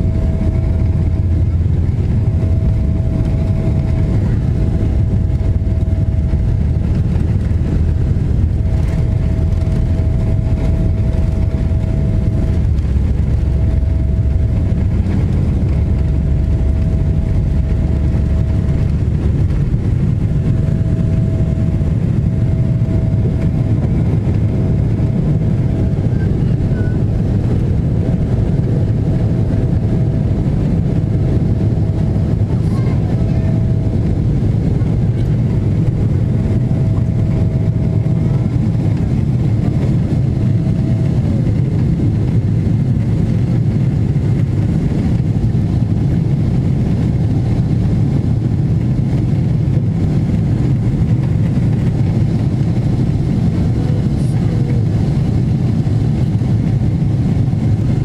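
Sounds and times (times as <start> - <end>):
jet engines roaring at takeoff: 0.0 - 58.0.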